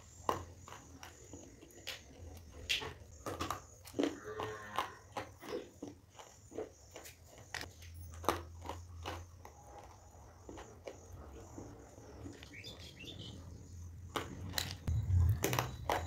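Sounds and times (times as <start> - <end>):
stone being chewed: 0.0 - 16.0.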